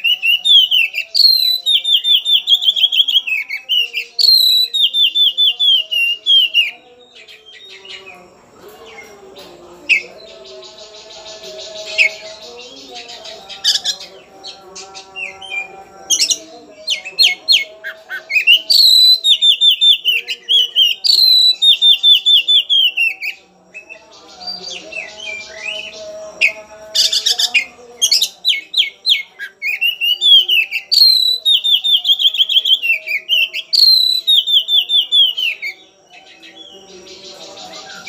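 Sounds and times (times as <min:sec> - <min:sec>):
bird singing chattering trills: 0:00.0 - 0:38.0.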